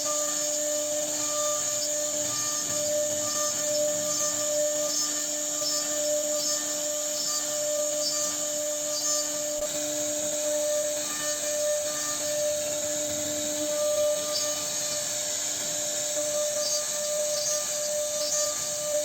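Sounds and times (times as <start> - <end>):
router spindle whine: 0.0 - 19.0.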